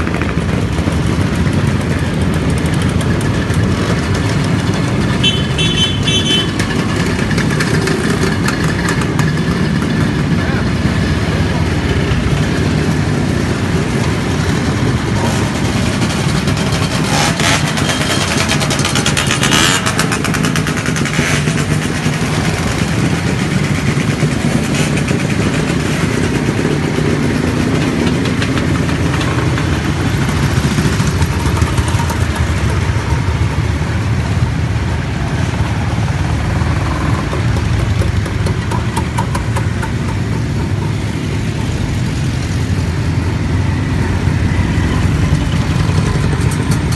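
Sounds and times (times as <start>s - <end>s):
engine crackles: 0.0s - 46.9s
motorcycles riding past: 0.0s - 46.9s.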